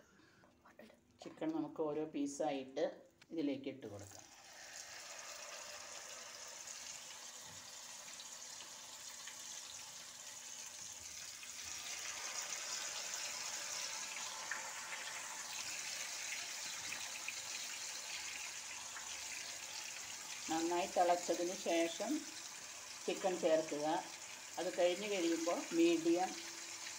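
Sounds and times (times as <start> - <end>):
chicken deep-frying in oil: 4.1 - 26.9.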